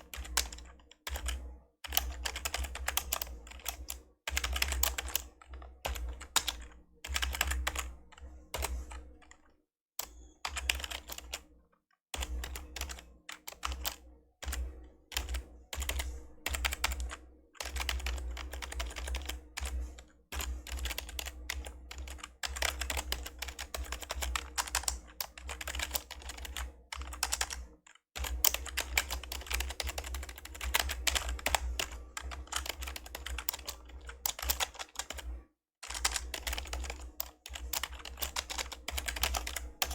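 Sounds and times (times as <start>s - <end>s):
fast typing on keyboard: 0.0s - 11.5s, 12.2s - 39.9s.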